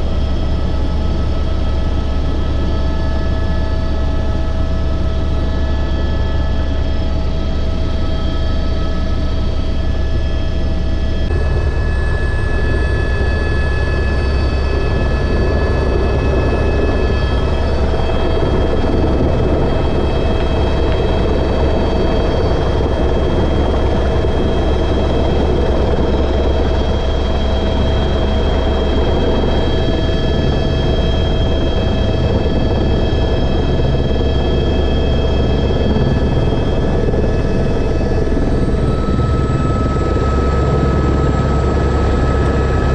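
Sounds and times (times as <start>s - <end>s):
helicopter drone in flight: 0.0s - 42.9s.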